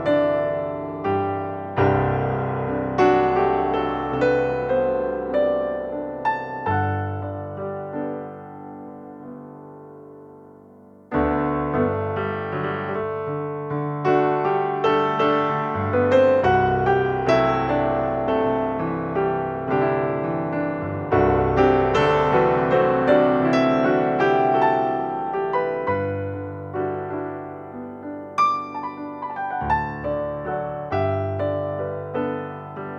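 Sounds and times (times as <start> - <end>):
slow gentle piano piece: 0.0 - 32.9.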